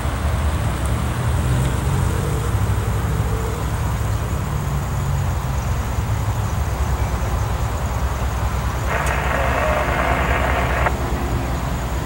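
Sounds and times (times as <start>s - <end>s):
diesel locomotive engines rumbling: 0.0s - 12.0s.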